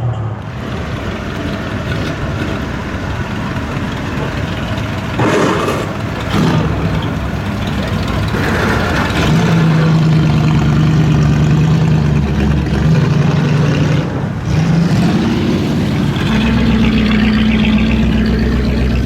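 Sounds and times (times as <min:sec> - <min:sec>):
muscle car engine running: 0:00.2 - 0:19.0.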